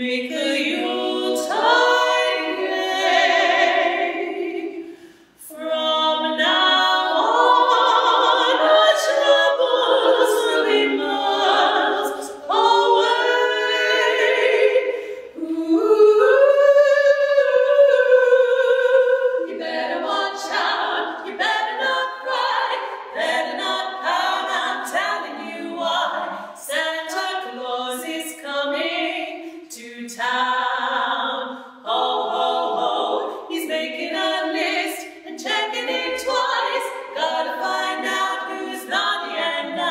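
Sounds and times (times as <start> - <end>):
women singing in harmony: 0.0 - 39.9.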